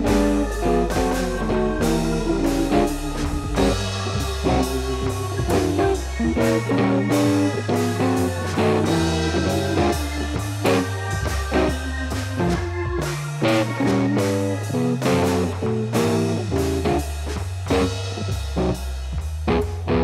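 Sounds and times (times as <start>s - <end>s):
blues-rock music: 0.0s - 20.0s.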